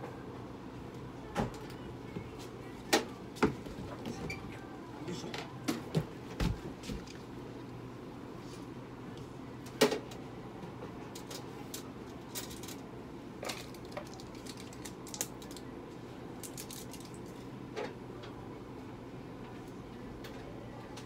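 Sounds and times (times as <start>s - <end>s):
room hum: 0.0s - 21.0s.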